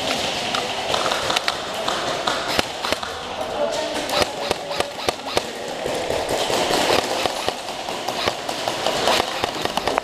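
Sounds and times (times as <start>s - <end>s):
airsoft guns firing: 0.1s - 10.0s.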